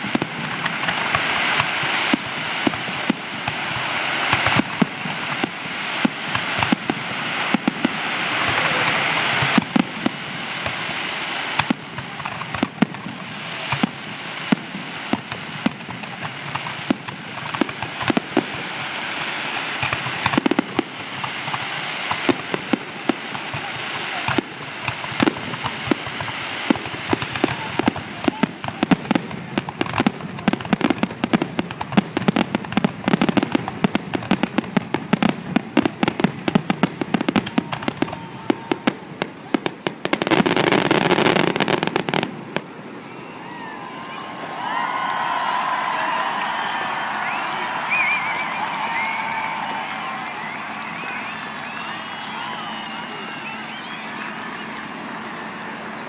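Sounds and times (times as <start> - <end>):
firework bangs: 0.0 - 56.0
fireworks crackling: 0.0 - 56.0.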